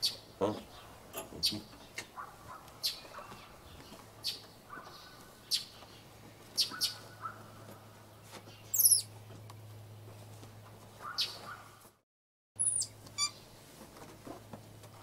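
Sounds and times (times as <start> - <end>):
birds chirping: 0.0 - 11.9, 12.6 - 13.6.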